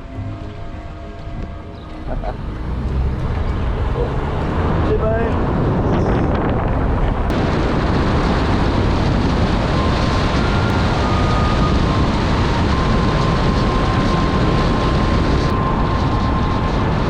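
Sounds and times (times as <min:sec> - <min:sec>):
road and wind noise: 0:00.0 - 0:17.0
wind buffeting microphone: 0:02.3 - 0:17.0.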